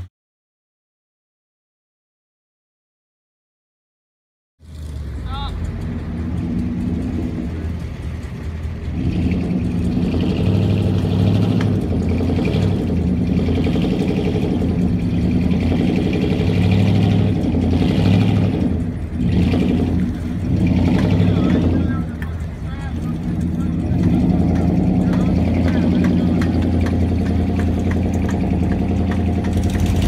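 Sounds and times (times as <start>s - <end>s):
truck engine revving: 4.6s - 30.0s.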